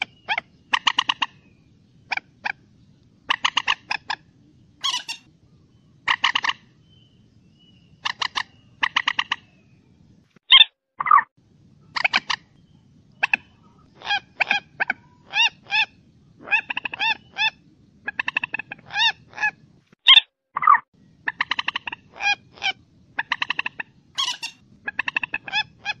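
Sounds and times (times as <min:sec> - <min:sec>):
moorhen calling: 0:00.0 - 0:09.6, 0:11.9 - 0:26.0.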